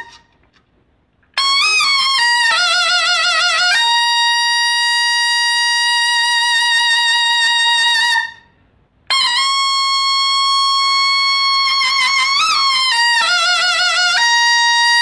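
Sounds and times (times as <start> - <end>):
shawm playing with wavering vibrato: 0.0 - 0.4, 1.4 - 8.4, 9.1 - 15.0.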